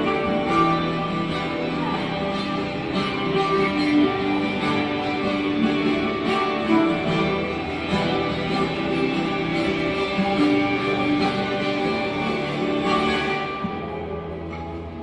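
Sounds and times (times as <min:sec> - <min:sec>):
ukulele picked with a plectrum: 0:00.0 - 0:15.0.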